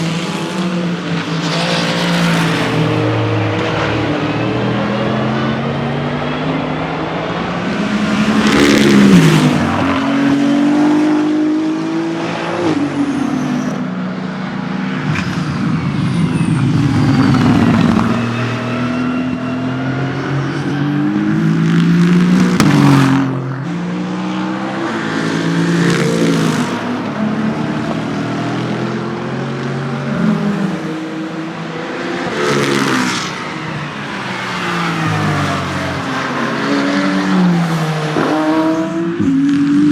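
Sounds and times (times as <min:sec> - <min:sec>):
race cars passing: 0:00.0 - 0:39.9.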